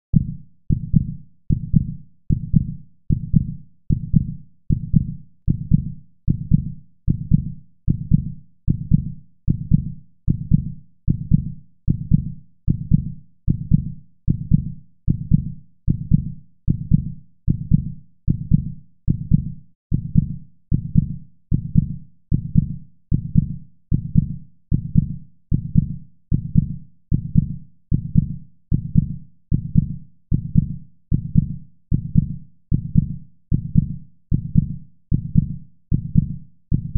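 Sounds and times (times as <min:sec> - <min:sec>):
low heartbeat-like thump: 0:00.1 - 0:36.9.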